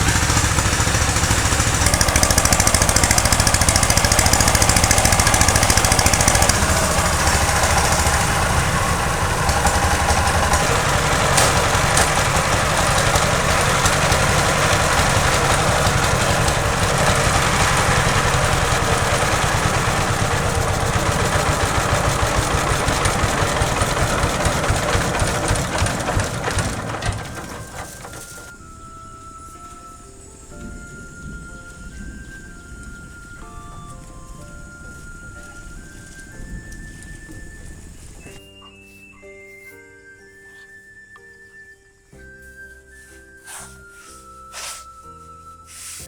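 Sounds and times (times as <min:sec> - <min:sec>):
small engine running with rattling: 0:00.0 - 0:38.4.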